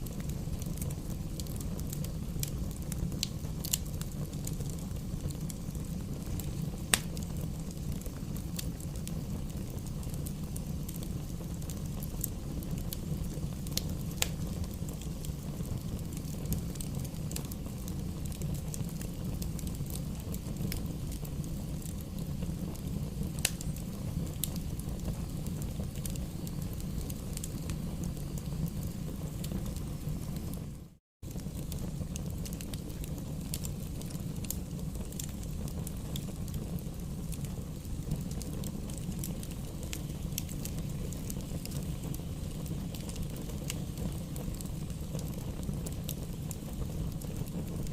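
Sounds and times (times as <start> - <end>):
campfire low roar: 0.0 - 47.9
fire crackles and pops: 0.0 - 47.9.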